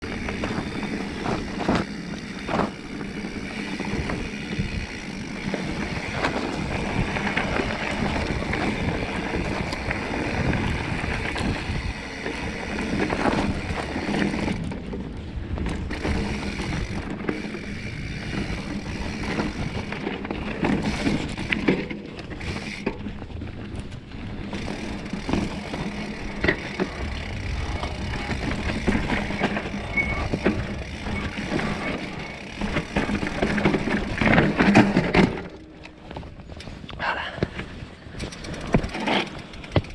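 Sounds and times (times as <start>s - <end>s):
bike clattering over rocks: 0.0s - 36.4s, 38.2s - 39.9s
bike tyres crunching over stone: 0.0s - 36.9s, 37.6s - 39.9s.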